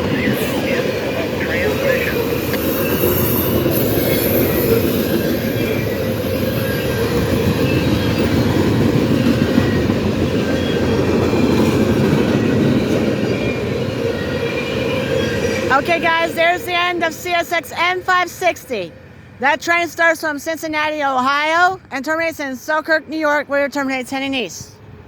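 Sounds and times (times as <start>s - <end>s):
rumble of train wheels on rail: 0.0s - 20.1s.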